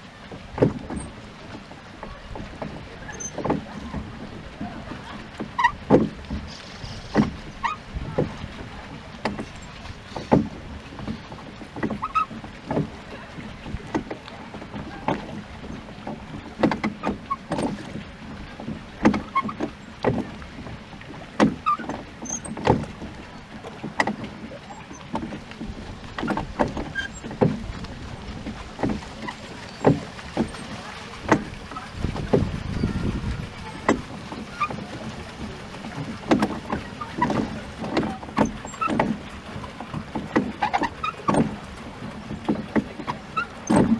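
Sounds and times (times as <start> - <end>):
oars dipping into water: 0.0 - 43.9
water washing: 0.0 - 43.9
oars knocking in oarlocks: 0.4 - 43.9.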